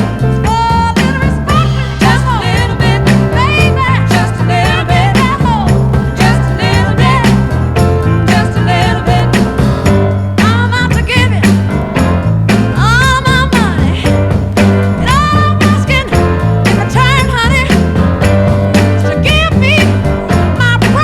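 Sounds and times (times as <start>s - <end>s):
rhythm and blues record: 0.0s - 21.0s.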